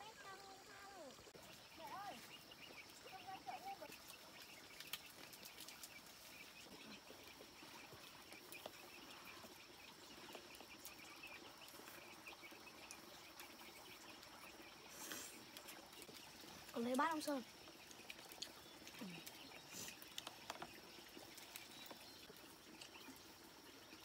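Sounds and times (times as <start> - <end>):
bird or insect chirps: 0.0 - 24.0.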